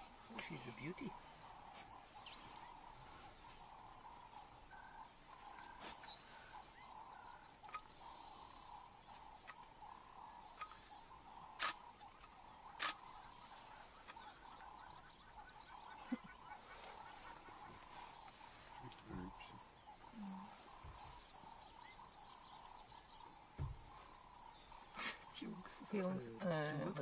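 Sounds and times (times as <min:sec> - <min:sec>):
insects trilling and chirping: 0:00.0 - 0:27.0.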